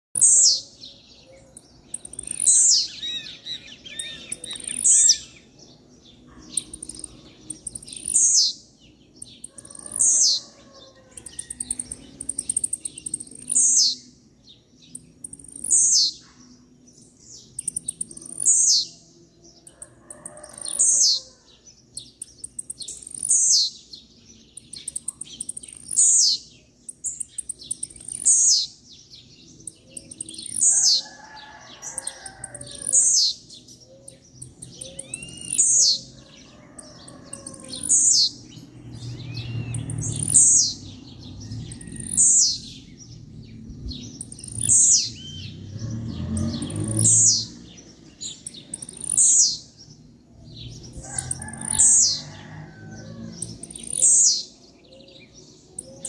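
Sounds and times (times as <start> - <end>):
bird singing high sliding song: 0.2 - 52.4, 53.2 - 56.0.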